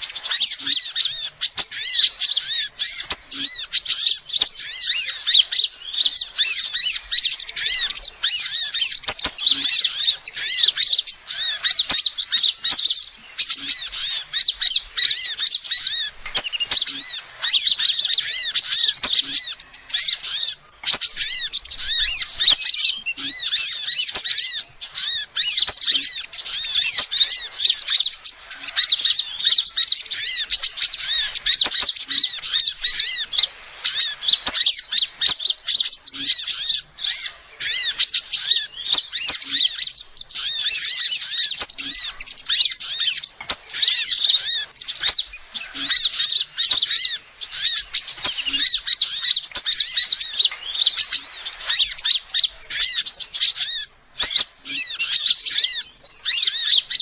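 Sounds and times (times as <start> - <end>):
bird chirping high and thin: 0.0 - 57.0.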